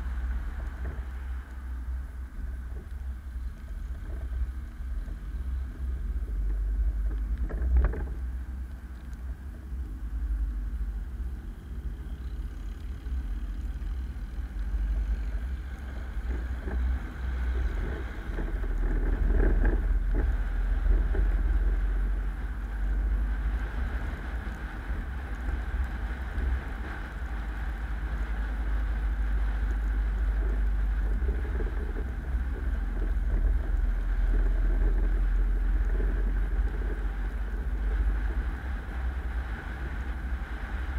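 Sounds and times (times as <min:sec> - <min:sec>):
car engine rumble and road noise: 0:00.0 - 0:40.9.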